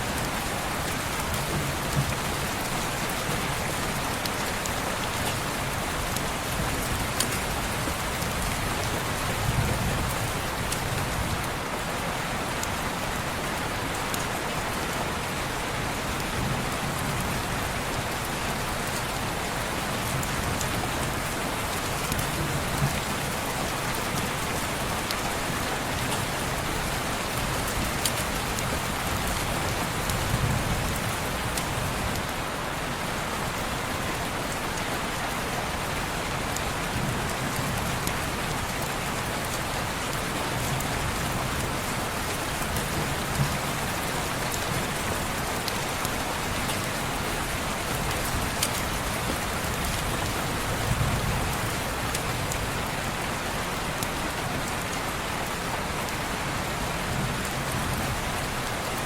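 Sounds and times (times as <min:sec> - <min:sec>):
heavy rain on a window: 0:00.0 - 0:59.0.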